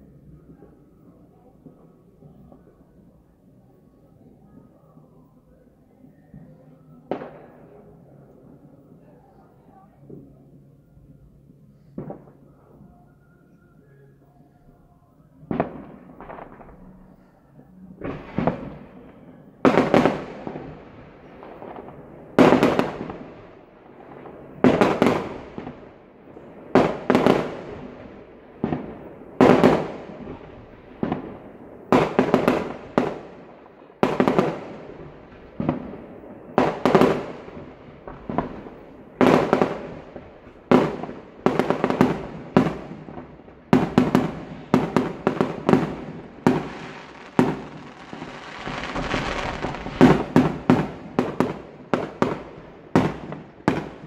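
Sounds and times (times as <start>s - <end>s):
fireworks bursting with loud bangs: 6.0s - 10.3s, 11.8s - 12.8s, 15.4s - 54.0s.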